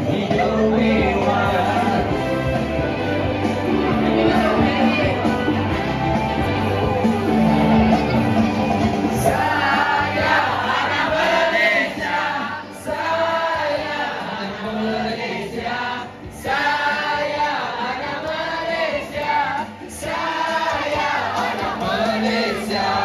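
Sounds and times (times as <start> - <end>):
men and women singing together: 0.0 - 7.0, 9.1 - 23.0.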